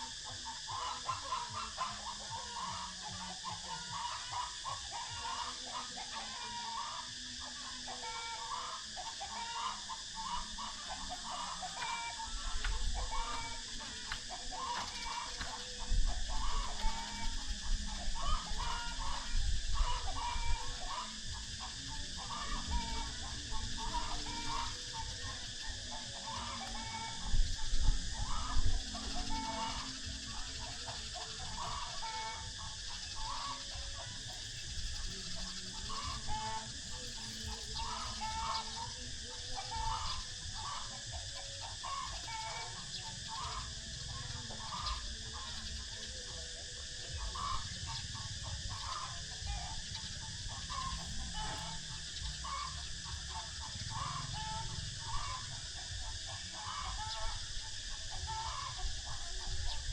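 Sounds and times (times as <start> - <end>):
birds calling: 0.0 - 59.9
steady high hiss: 0.0 - 59.9.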